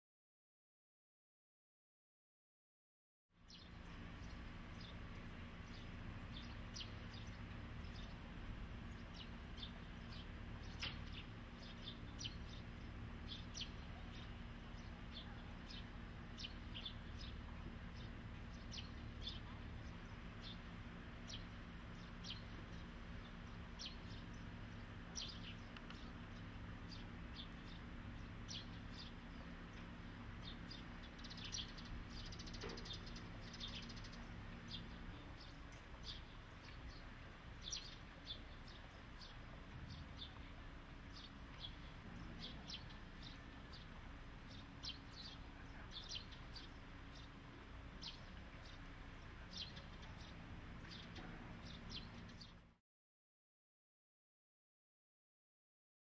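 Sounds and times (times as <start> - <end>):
faint low hum: 3.4 - 52.8
small birds chirping: 3.4 - 52.8.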